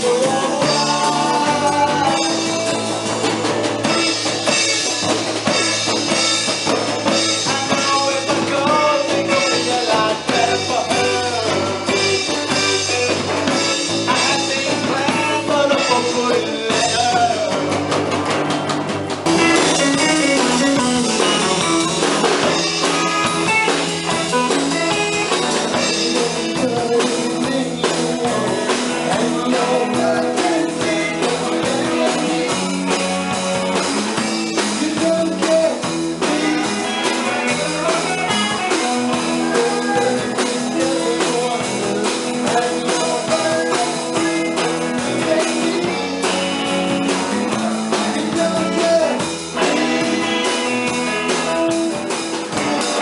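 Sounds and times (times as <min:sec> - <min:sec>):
man singing: 0:00.0 - 0:05.1, 0:05.7 - 0:17.9, 0:19.3 - 0:53.0
bass guitar: 0:00.0 - 0:53.0
drum kit: 0:00.0 - 0:53.0
electric guitar: 0:00.0 - 0:53.0.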